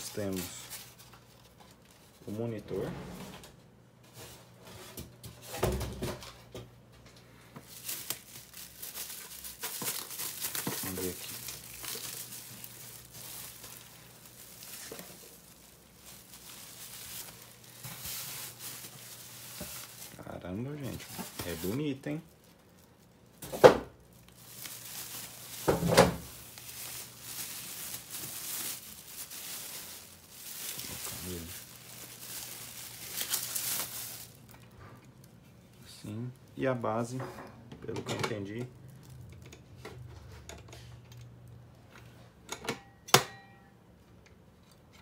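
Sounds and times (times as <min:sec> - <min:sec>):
plastic wrapping rustling: 0:00.0 - 0:02.8, 0:04.1 - 0:37.2, 0:38.3 - 0:39.5.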